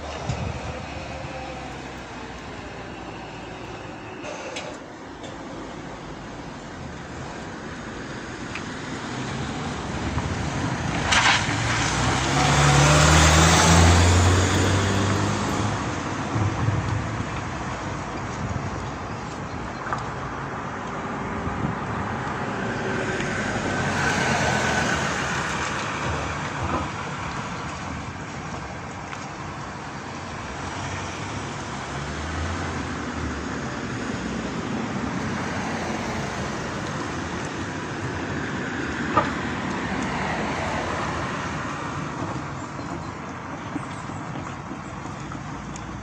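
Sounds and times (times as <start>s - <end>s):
cars driving past: 0.0s - 46.0s.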